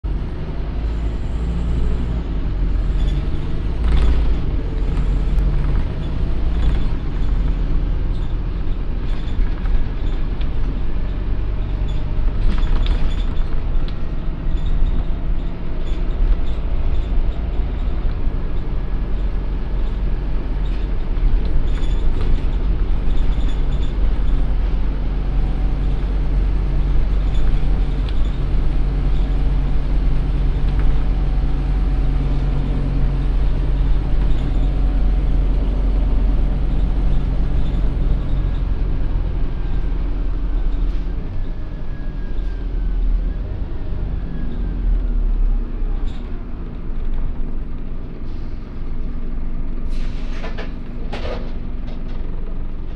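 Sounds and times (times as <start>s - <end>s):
bus diesel engine humming: 0.0s - 52.9s.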